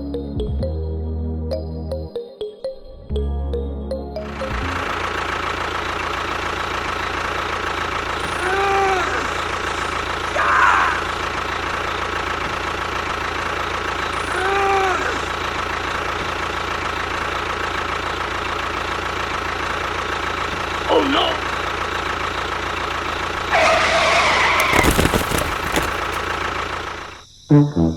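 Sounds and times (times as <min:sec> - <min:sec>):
steady engine-like running noise: 0:04.2 - 0:27.3.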